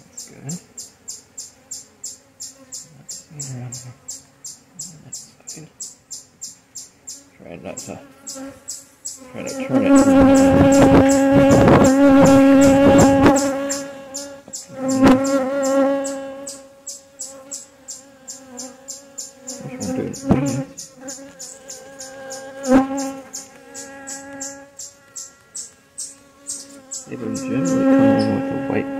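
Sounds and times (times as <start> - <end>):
bees buzzing: 0.0 - 28.9.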